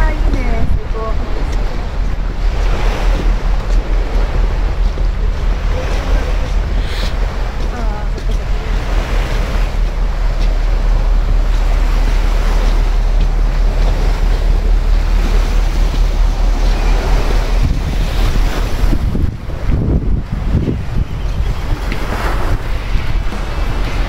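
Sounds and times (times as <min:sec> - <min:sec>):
sea water rushing: 0:00.0 - 0:24.0
wind buffeting microphone: 0:00.0 - 0:24.0.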